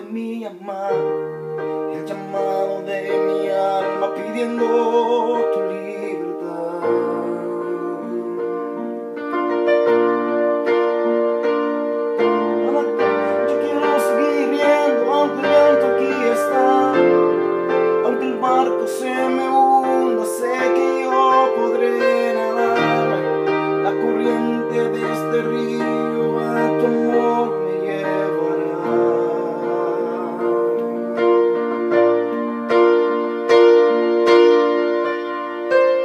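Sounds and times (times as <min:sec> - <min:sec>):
electronic keyboard piano music: 0:00.0 - 0:36.0.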